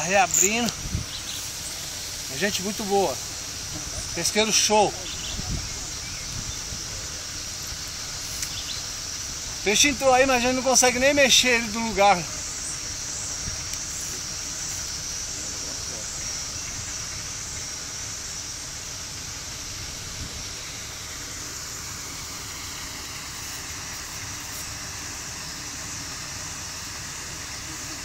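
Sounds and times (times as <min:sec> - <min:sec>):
high hiss: 0:00.0 - 0:28.0.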